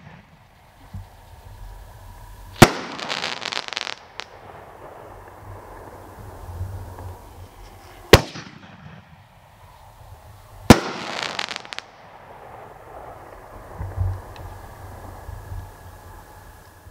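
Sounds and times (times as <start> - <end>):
firework shells bursting: 0.0 - 16.8
firework crackles: 0.0 - 16.9.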